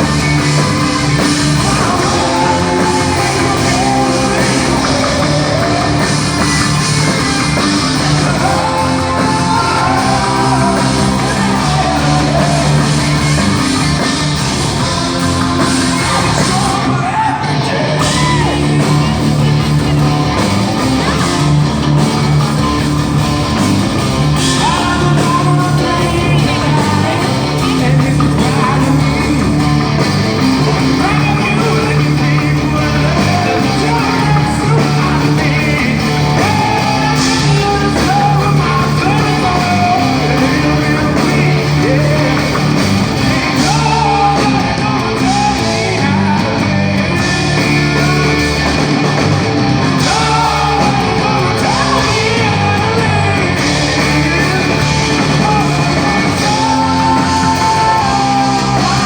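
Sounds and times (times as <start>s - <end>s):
bass guitar: 0.0s - 59.0s
drums: 0.0s - 59.0s
electric guitar: 0.0s - 59.0s
singer's voice: 0.0s - 59.0s.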